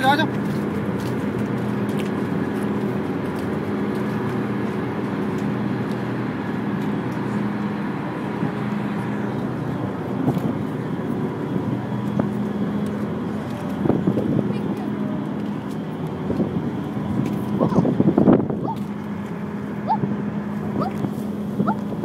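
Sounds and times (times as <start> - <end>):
ship engines droning: 0.0 - 22.0.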